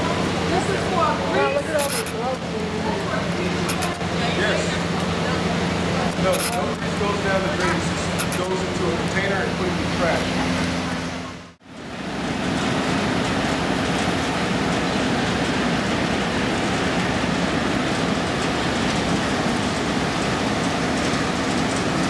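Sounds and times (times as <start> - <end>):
wastewater rushing through channels: 0.0 - 22.0.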